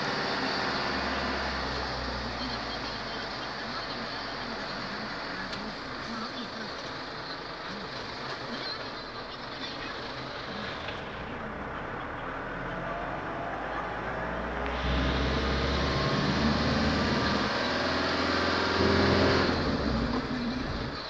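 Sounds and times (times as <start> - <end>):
vehicle engine accelerating: 0.0 - 21.0.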